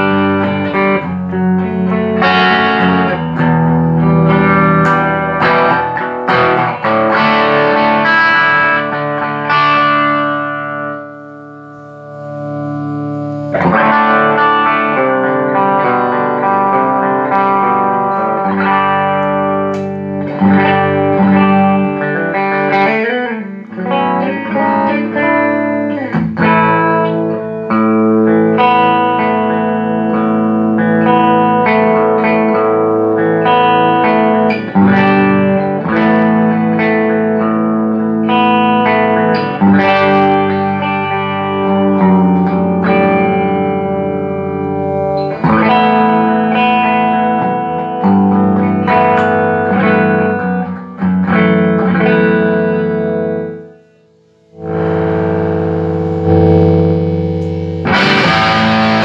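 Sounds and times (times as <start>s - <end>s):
electric guitar chords ringing: 0.0s - 59.0s.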